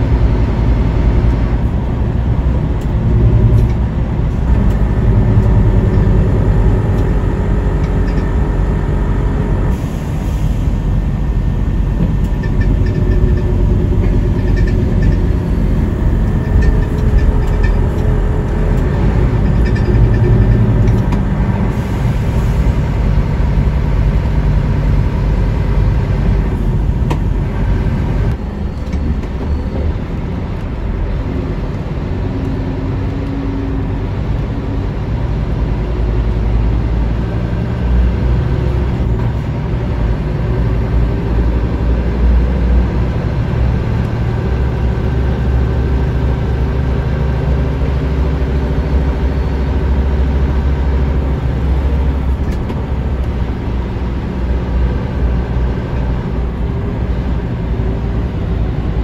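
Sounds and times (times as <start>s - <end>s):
vehicle cabin rumble: 0.0s - 59.0s.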